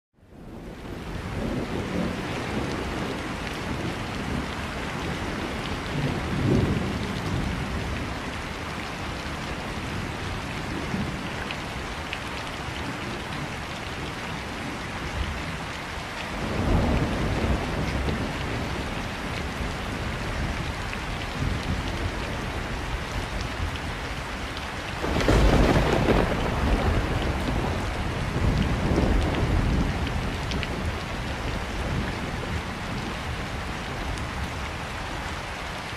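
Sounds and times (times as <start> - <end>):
heavy rain on street: 0.2 - 35.9.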